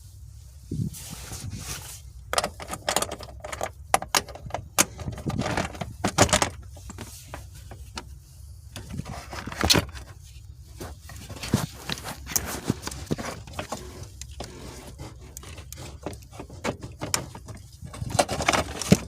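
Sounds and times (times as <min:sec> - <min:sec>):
metal and plastic parts rattling: 0:02.3 - 0:08.1, 0:08.7 - 0:10.2, 0:10.8 - 0:19.0.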